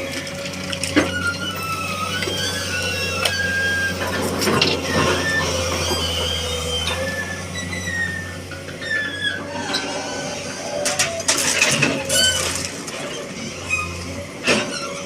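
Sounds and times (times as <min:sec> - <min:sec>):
excavator engine running: 0:00.0 - 0:15.0
hydraulic whines: 0:00.0 - 0:15.0.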